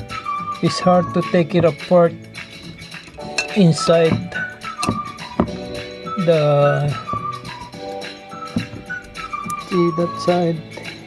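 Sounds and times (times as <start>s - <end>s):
music with held notes: 0.0s - 11.0s.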